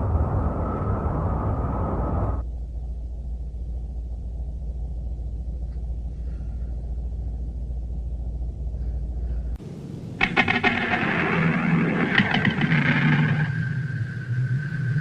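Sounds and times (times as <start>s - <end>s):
deep background rumble: 0.0s - 15.0s.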